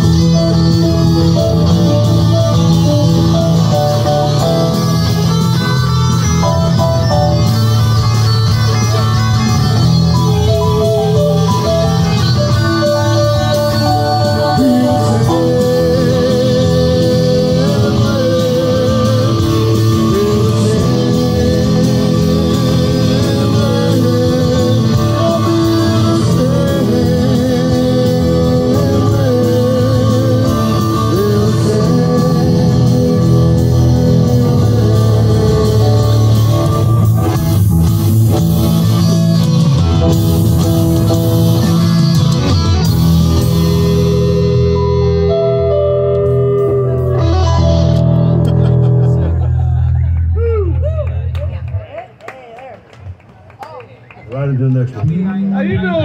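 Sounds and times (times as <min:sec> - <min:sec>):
guitar lead with vibrato: 0:00.0 - 0:50.9
live band with electric guitars: 0:00.0 - 0:56.0.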